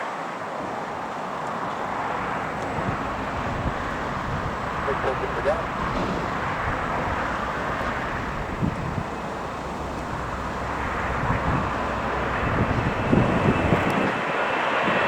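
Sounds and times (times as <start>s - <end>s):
aircraft engine: 0.0s - 15.0s
wind buffeting microphone: 0.4s - 15.0s.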